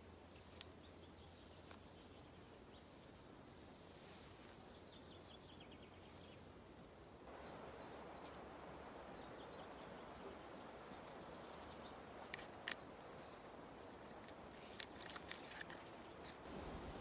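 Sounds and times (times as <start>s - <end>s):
soft outdoor hiss: 0.0s - 17.0s.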